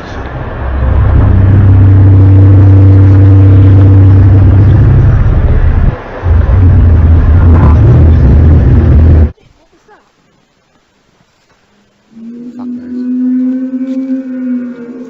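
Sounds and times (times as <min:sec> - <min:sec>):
low droning metallic groan: 0:00.0 - 0:09.3, 0:12.1 - 0:15.0.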